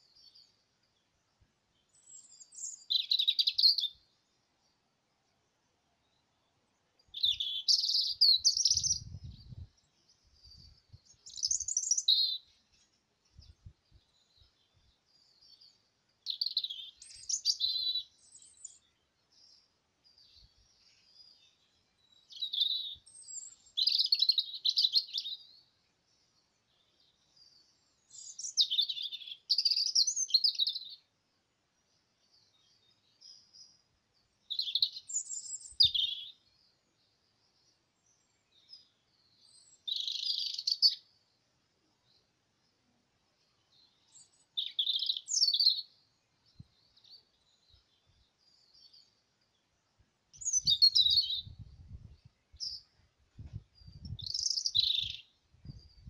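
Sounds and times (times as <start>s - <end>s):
robin singing: 0.0s - 31.1s, 31.7s - 56.0s.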